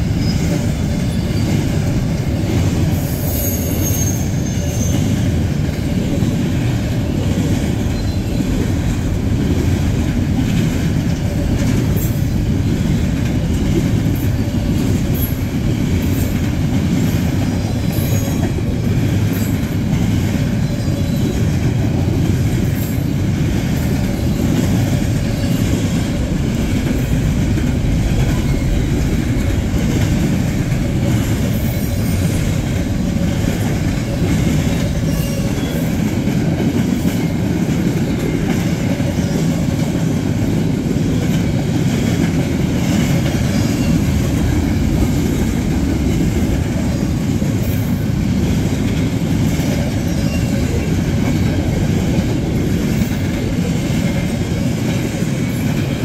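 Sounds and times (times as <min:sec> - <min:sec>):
train rumbling past: 0:00.0 - 0:56.0
wheels clicking over rail joints: 0:05.0 - 0:56.0.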